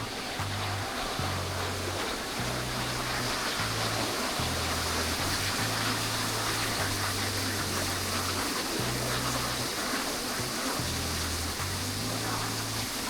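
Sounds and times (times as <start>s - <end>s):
low bass music: 0.0s - 13.0s
waterfall rushing: 0.0s - 13.0s.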